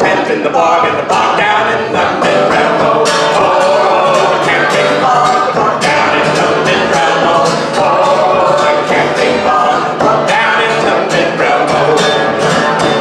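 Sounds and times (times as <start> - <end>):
strummed acoustic guitar: 0.0 - 13.0
voices singing: 0.0 - 13.0.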